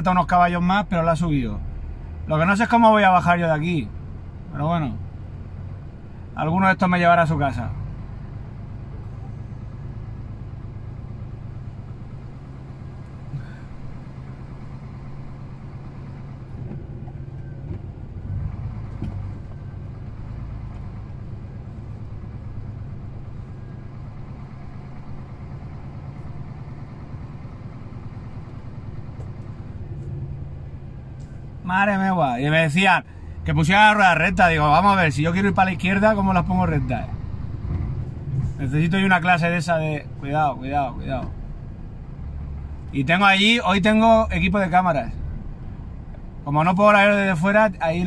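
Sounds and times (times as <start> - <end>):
diesel engines droning: 0.0 - 48.0.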